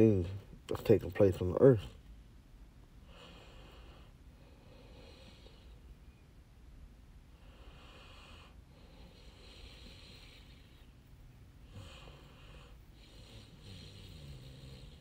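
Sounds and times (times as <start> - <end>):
soft hissing breaths: 0.0 - 15.0.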